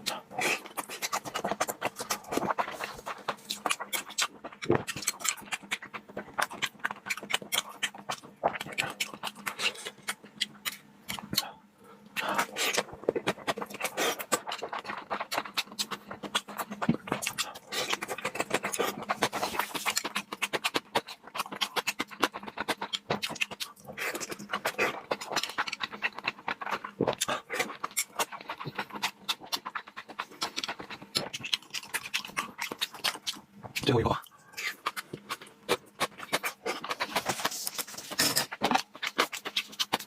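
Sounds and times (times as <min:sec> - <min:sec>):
close chewing and mouth sounds: 0:00.0 - 0:40.0
faint steady hum: 0:00.0 - 0:40.0.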